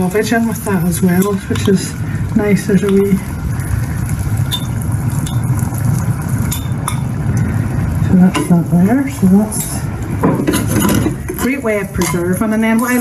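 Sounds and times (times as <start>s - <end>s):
pan sizzling: 0.0s - 13.0s.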